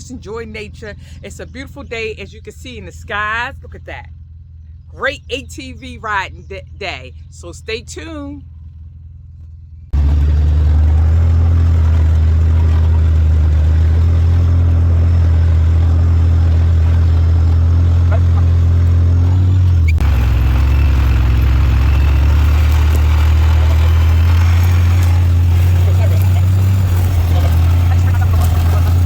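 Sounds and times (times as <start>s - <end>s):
engine low drone: 0.0s - 29.0s.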